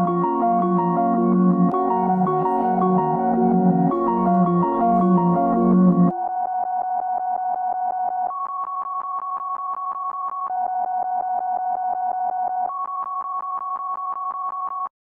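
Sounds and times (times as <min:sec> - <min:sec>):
synthesizer pulsing repeated notes: 0:00.0 - 0:12.8.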